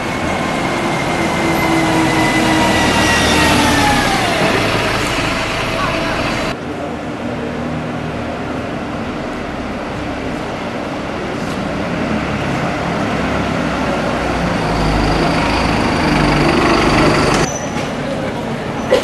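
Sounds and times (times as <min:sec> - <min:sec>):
large vehicle engine approaching: 0:00.0 - 0:19.0.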